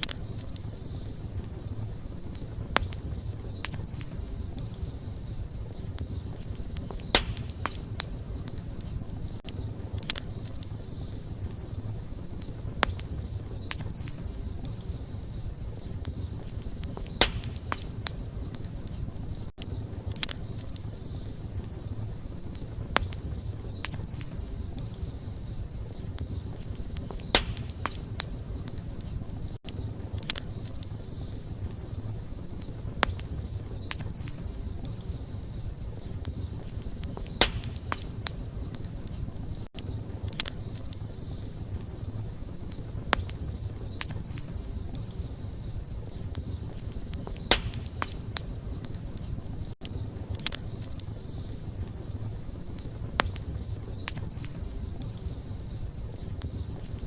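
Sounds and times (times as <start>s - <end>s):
campfire rumble: 0.0s - 57.0s
fire crackling and popping: 0.0s - 57.0s.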